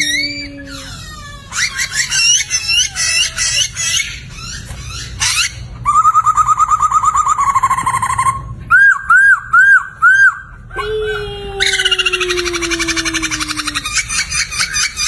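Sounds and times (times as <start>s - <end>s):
bird singing and trilling: 0.0s - 15.0s
faint low hum: 0.0s - 15.0s.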